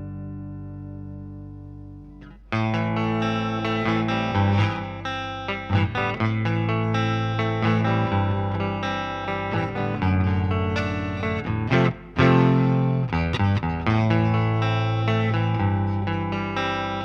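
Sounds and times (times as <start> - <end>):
electric guitar chords and notes: 0.0 - 17.0.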